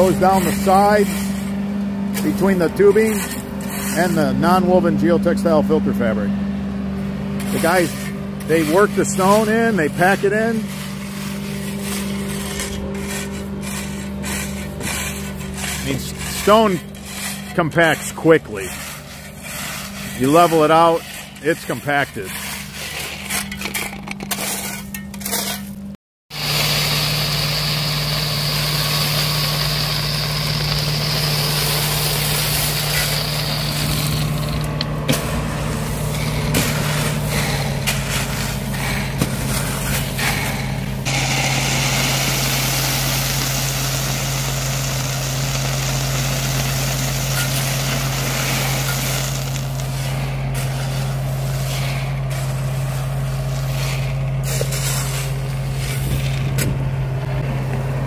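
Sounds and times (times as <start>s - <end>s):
gravel scraping and rattling: 0.0s - 5.1s, 7.1s - 58.0s
small engine running: 7.4s - 24.6s, 26.3s - 56.8s.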